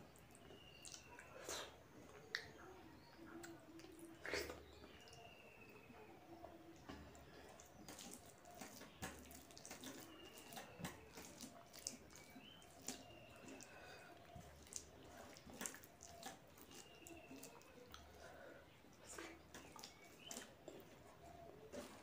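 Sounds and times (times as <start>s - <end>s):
wet squishing of rice: 0.0s - 22.0s.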